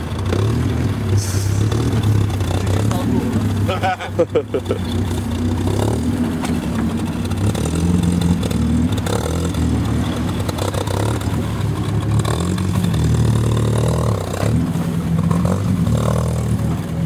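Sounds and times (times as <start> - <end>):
off-road engine revving: 0.0 - 17.0.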